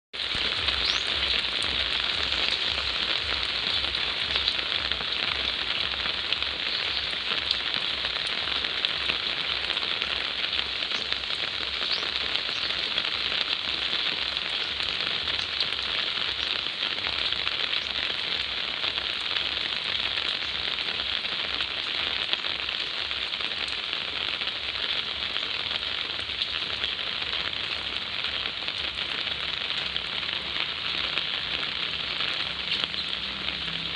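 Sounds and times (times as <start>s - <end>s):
steady rain hiss: 0.2s - 33.9s.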